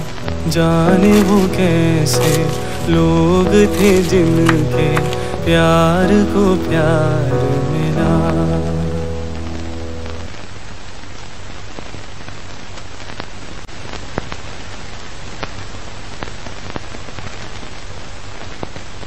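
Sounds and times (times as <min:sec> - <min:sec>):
steady rain patter: 0:00.0 - 0:19.0.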